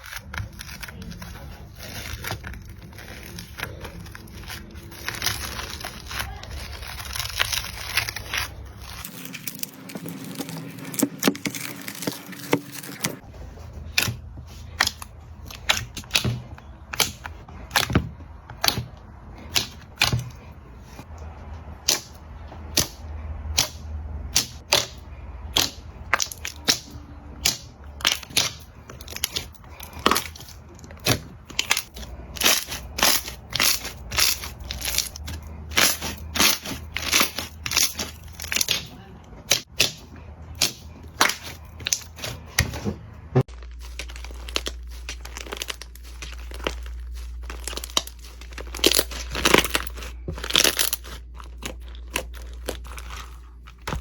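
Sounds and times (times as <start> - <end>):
sticky slime crackling: 0.0 - 21.2, 21.8 - 54.0.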